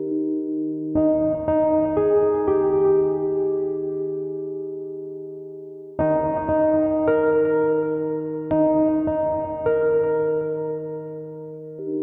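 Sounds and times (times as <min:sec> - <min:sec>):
slow music of ringing notes: 0:00.0 - 0:12.0.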